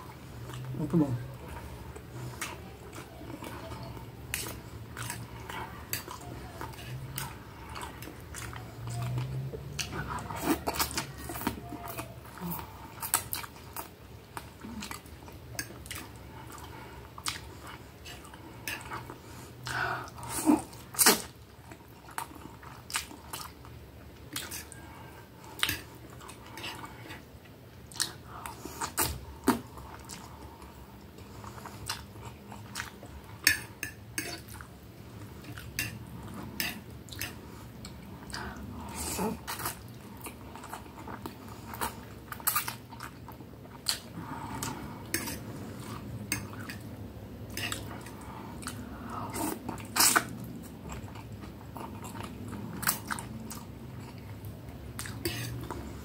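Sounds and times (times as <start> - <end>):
close chewing and biting: 0.4 - 56.0.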